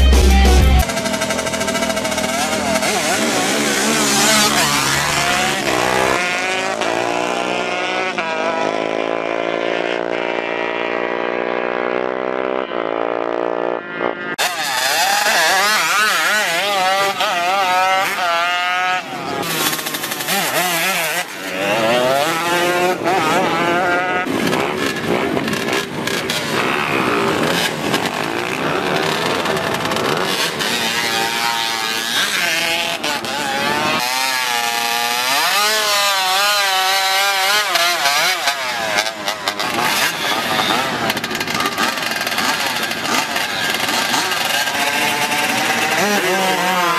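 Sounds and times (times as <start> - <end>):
two-stroke motorcycle engines revving: 0.0 - 46.9.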